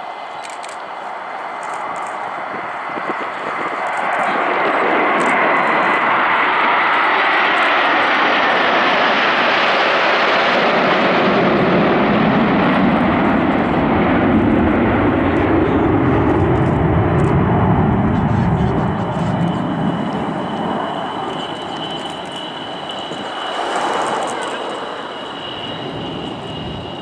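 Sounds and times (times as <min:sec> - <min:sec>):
jet engines roaring overhead: 0:00.0 - 0:27.0.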